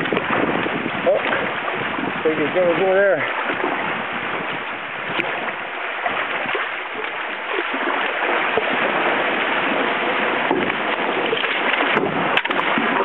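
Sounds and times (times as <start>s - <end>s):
water lapping against hull: 0.0s - 13.0s.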